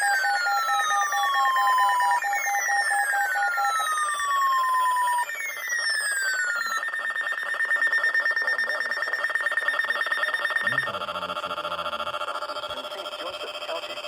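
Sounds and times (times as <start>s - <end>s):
falling swept alarm tone: 0.0s - 14.0s
pulsing multi-tone alarm: 0.0s - 14.0s
rapidly pulsing alarm beep: 0.0s - 14.0s.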